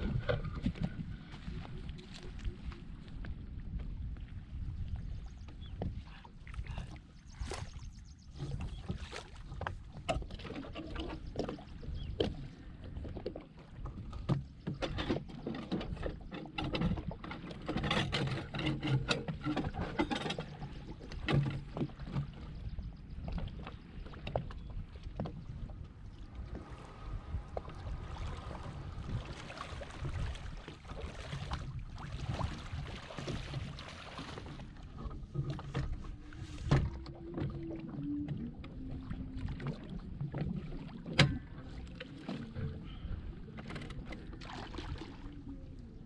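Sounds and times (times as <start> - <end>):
boat knocks and clunks: 0.0 - 7.6, 8.3 - 46.0
water sloshing and splashing: 0.0 - 46.0.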